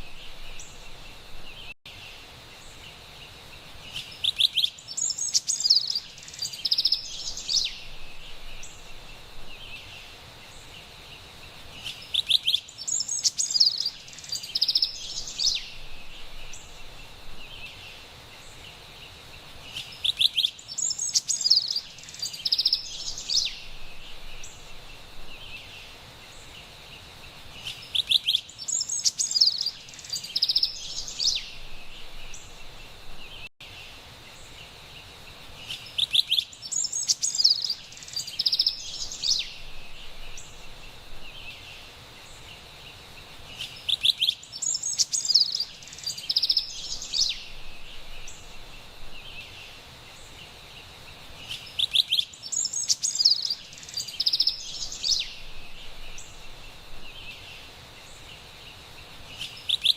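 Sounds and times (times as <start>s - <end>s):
background hiss: 0.0s - 59.9s
wren singing: 3.8s - 18.8s, 19.6s - 26.8s, 27.5s - 33.8s, 35.6s - 59.9s.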